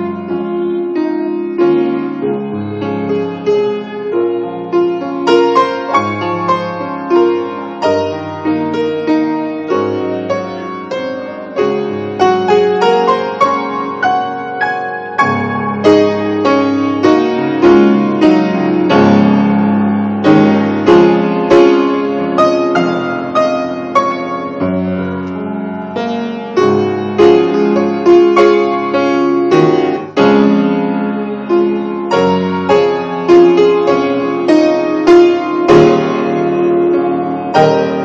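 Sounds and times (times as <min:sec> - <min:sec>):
piano playing: 0:00.0 - 0:38.0.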